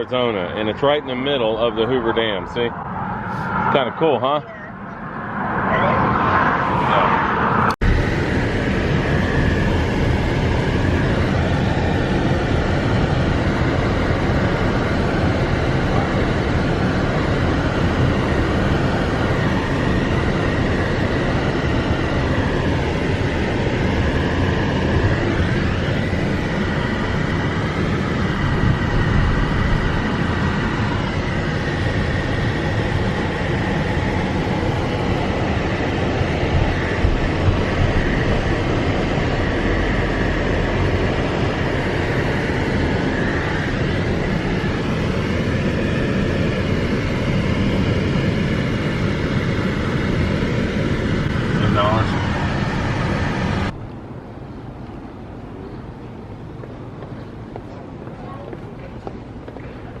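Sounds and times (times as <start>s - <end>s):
loud rushing and rumbling noise: 0.0s - 60.0s.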